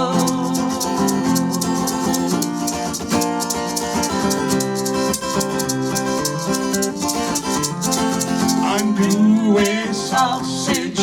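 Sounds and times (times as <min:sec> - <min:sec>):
shaker rhythm: 0:00.0 - 0:11.0.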